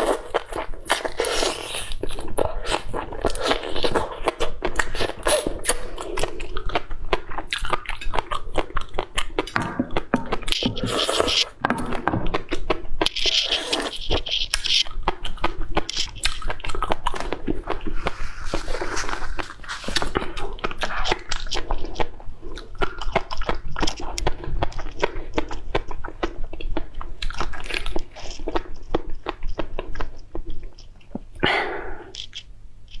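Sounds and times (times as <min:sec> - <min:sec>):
crunchy biting and chewing: 0:00.0 - 0:31.3.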